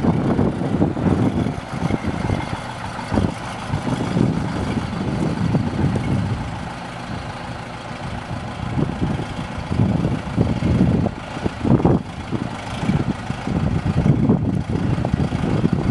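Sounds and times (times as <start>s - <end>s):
tractor engine running at low revs: 0.0s - 15.9s.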